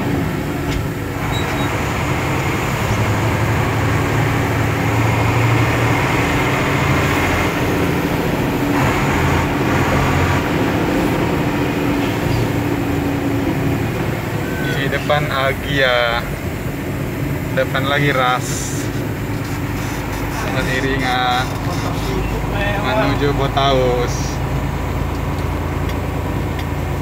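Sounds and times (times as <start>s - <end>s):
road noise: 0.0s - 27.0s
truck engine droning: 0.0s - 27.0s.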